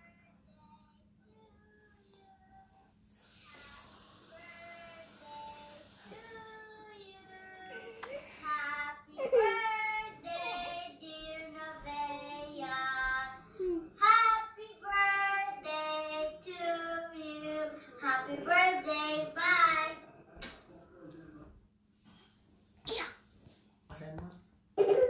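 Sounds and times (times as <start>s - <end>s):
girl singing through tv speakers: 0.0s - 20.2s.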